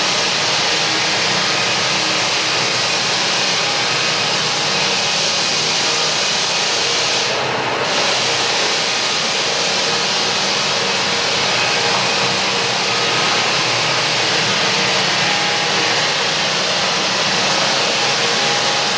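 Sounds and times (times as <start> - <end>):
belt floor sander hissing: 0.0 - 18.9.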